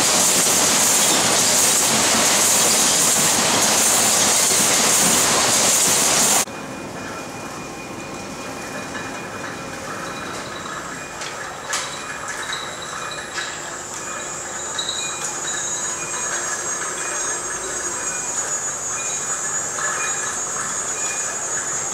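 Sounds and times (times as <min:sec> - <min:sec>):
loud hissing machine noise: 0:00.0 - 0:06.5, 0:10.6 - 0:21.9.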